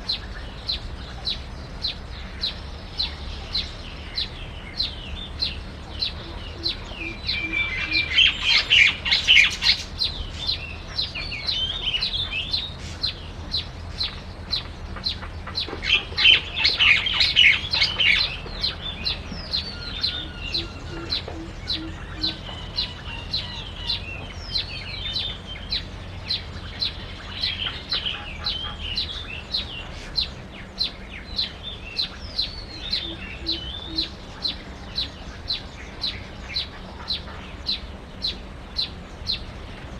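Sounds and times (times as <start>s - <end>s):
birds twittering chatter: 0.0s - 39.9s
small birds chirping: 0.0s - 39.9s.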